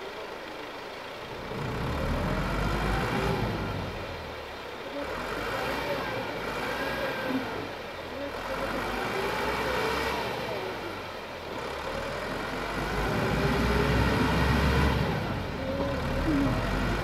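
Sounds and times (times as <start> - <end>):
tractor diesel engine labouring: 0.0 - 17.0.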